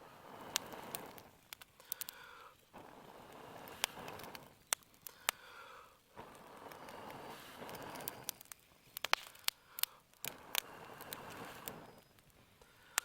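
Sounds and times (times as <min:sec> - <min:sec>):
air blowing through a tube: 0:00.0 - 0:08.6, 0:09.2 - 0:12.2
twigs crackling in fire: 0:00.0 - 0:13.0.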